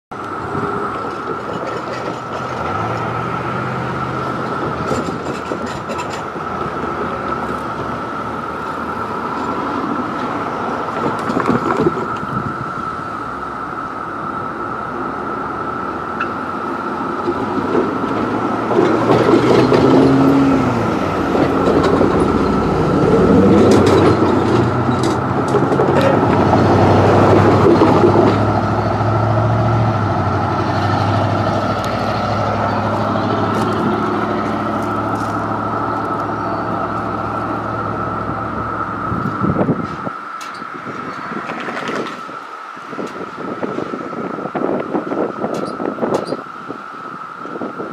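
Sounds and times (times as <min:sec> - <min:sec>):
passing vehicle engine rumble: 0:00.1 - 0:47.9
cicada chorus drone: 0:02.7 - 0:47.9.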